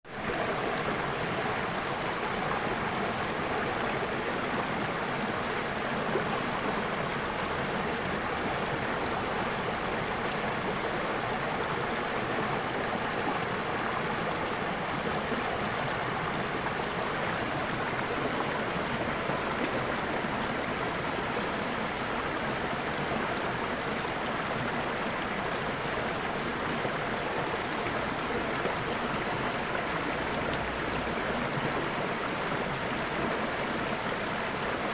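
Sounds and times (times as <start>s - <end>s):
stream rushing: 0.1s - 34.9s.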